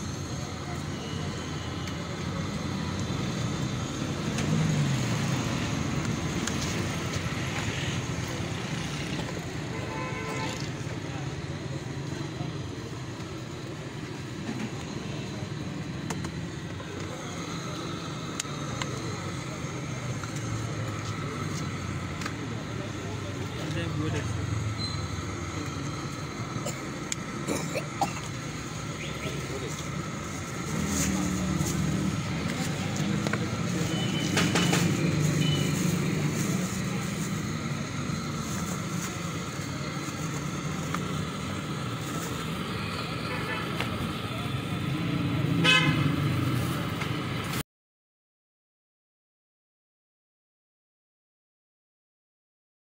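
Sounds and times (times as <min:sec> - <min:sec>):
traffic rumble with low hum: 0:00.0 - 0:47.6.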